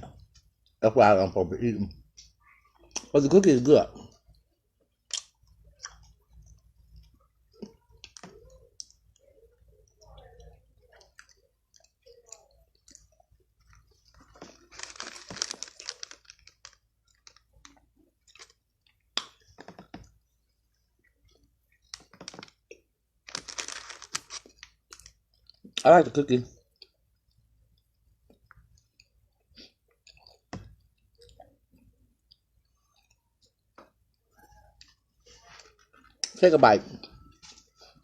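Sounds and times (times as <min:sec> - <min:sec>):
person chewing a cookie: 0:04.0 - 0:25.8, 0:26.6 - 0:36.4.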